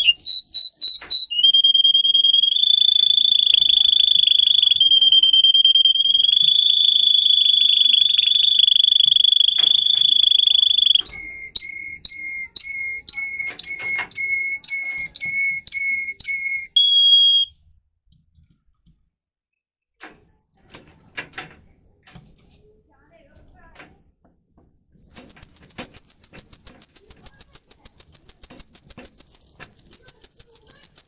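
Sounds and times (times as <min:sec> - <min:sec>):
canary singing: 0:00.0 - 0:17.5, 0:20.6 - 0:23.8, 0:24.8 - 0:31.0
clicks and high chirps: 0:00.0 - 0:17.5, 0:20.5 - 0:23.8, 0:24.7 - 0:31.0.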